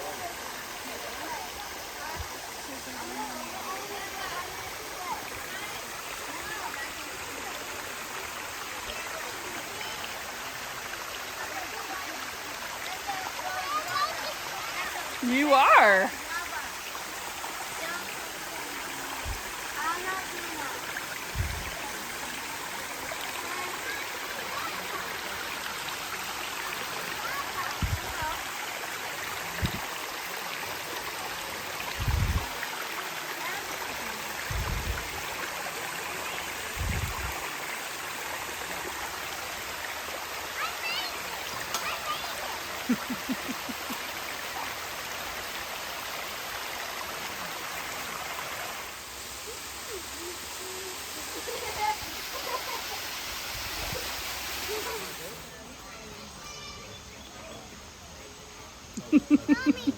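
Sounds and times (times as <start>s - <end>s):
water rushing over waterfall: 0.0s - 55.6s, 59.6s - 59.9s.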